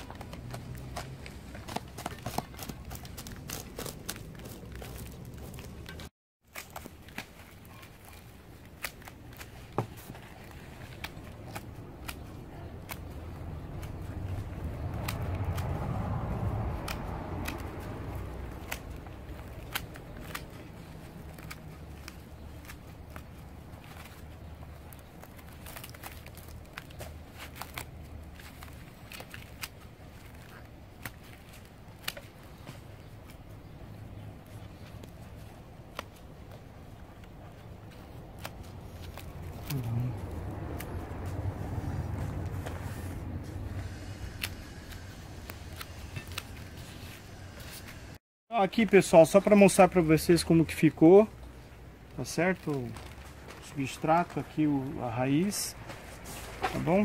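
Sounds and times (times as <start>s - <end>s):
pruning shears snipping roots: 0.0s - 42.8s, 43.8s - 48.1s
blade scratching through roots: 0.0s - 48.2s, 52.2s - 57.0s
roots crackling: 0.0s - 57.0s.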